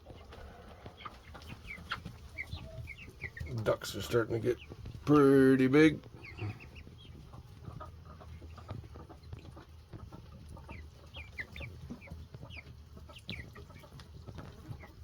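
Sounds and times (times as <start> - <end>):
chicks cheeping: 0.0 - 15.0.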